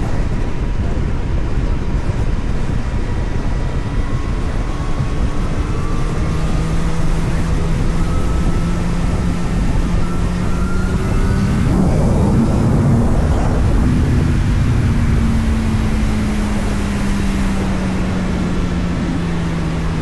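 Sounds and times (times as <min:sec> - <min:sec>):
road and wind rumble: 0:00.0 - 0:20.0
vehicle engine running: 0:00.0 - 0:20.0.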